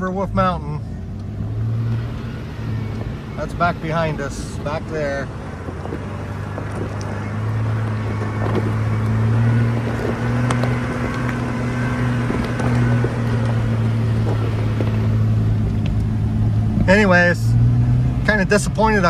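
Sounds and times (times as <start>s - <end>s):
engine droning: 0.0s - 19.0s
knocks and rattles: 1.2s - 17.0s.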